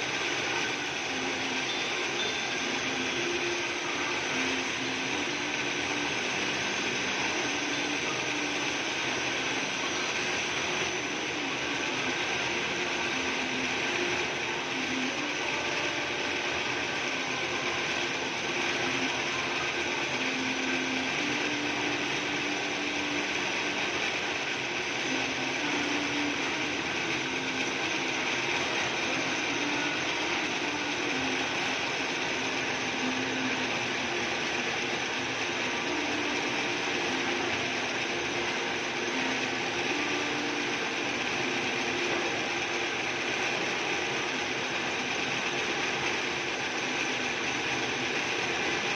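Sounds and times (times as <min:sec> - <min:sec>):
drill press boring metal: 0:00.0 - 0:48.9.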